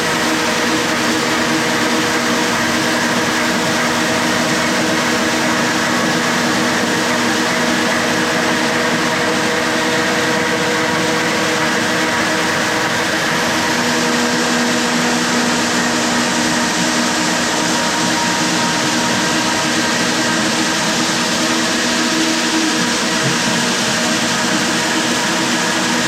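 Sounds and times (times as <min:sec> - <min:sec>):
floor sander running: 0:00.0 - 0:26.0.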